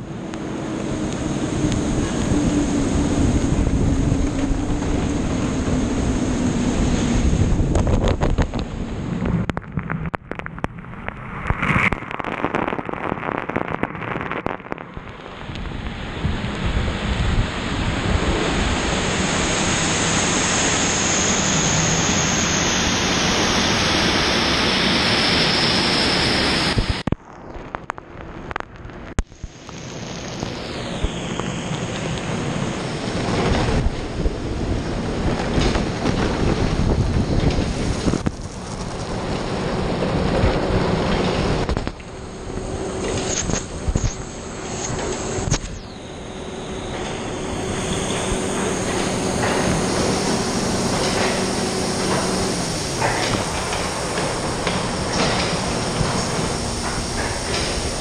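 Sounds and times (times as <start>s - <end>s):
car wash brushes and machinery: 0.0s - 27.1s, 27.8s - 58.0s
steady high whine: 0.0s - 58.0s
water spraying against car: 0.6s - 27.1s, 29.2s - 58.0s.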